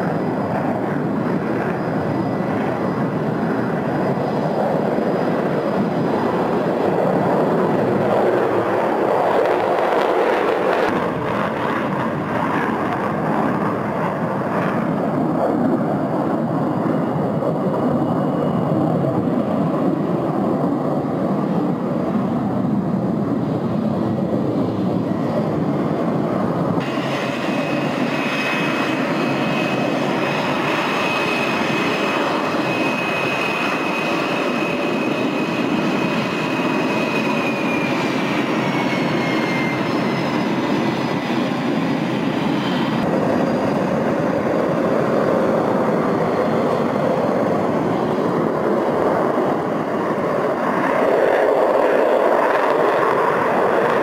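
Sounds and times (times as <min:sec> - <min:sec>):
high turbine whine: 0:00.0 - 0:54.0
jet engine roar: 0:00.0 - 0:54.0.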